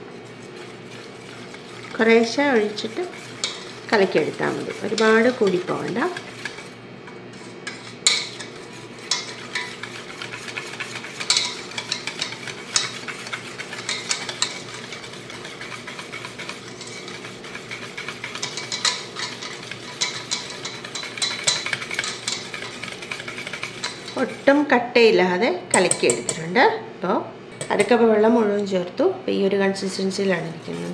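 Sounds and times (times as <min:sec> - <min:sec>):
whisk clinking against bowl: 0:00.0 - 0:24.7, 0:25.7 - 0:26.5, 0:29.9 - 0:30.9
whisk beating batter: 0:00.0 - 0:24.9, 0:25.8 - 0:26.5, 0:29.8 - 0:30.9.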